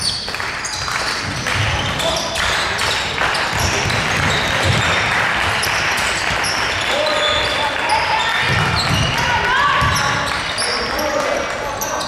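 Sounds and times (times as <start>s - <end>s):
shoe squeaks: 0.0s - 12.0s
basketball bouncing on court: 0.7s - 10.6s
indistinct shouts and chatter: 1.3s - 12.0s.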